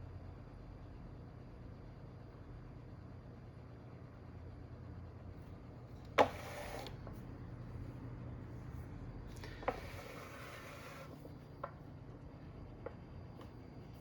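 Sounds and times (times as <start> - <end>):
table fan humming: 0.0 - 14.0.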